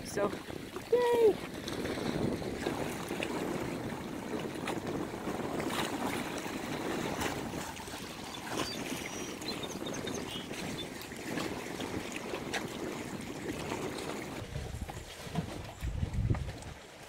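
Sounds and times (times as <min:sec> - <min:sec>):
water slapping rocks: 0:00.0 - 0:17.0
waves lapping against rocks: 0:00.0 - 0:17.0.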